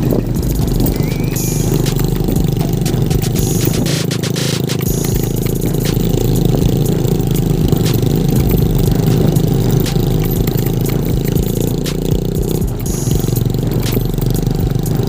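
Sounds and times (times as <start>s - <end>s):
rattling and clattering knocks: 0.0s - 15.0s
tractor engine running: 0.0s - 15.0s.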